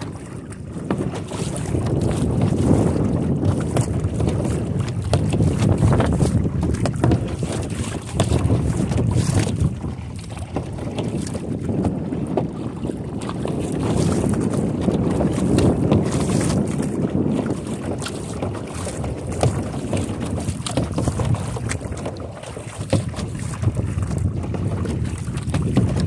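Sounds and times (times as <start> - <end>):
kayak paddle splashing water: 0.0 - 26.0
wind buffeting microphone: 0.0 - 26.0.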